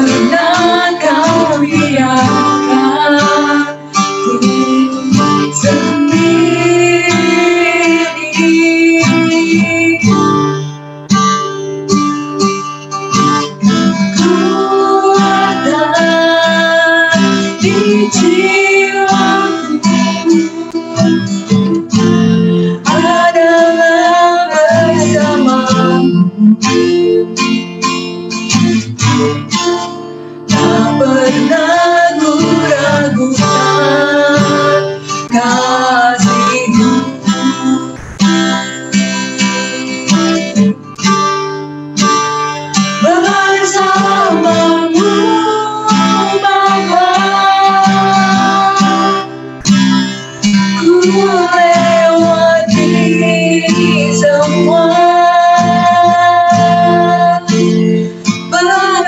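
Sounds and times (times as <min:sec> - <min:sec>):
woman singing: 0:00.0 - 0:10.6, 0:14.0 - 0:28.0, 0:30.5 - 0:40.7, 0:42.9 - 0:49.6, 0:50.5 - 0:59.0
strummed acoustic guitar: 0:00.0 - 0:59.0.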